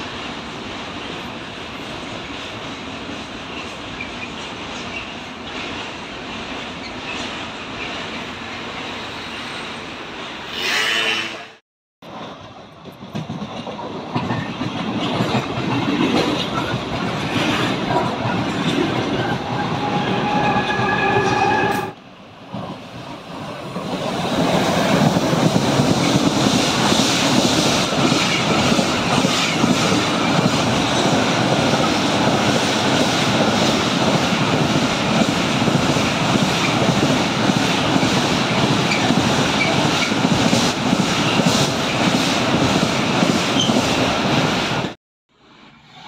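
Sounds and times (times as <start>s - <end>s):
freight train rolling past: 0.0s - 46.0s.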